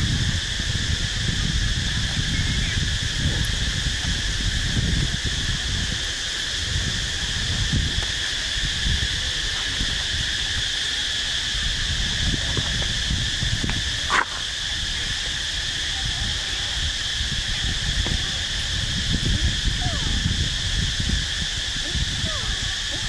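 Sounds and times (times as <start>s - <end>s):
insects droning: 0.0s - 23.0s
wind on microphone: 0.0s - 23.0s.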